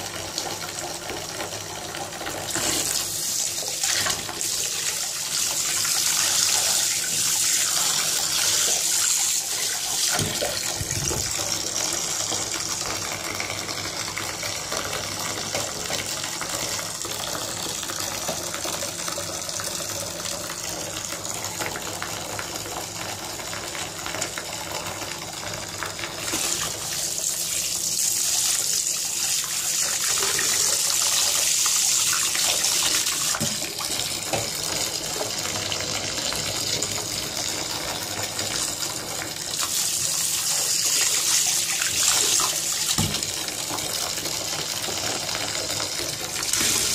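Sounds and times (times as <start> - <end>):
tap water splashing into bathtub: 0.4 - 19.7, 25.8 - 28.7, 29.4 - 46.9.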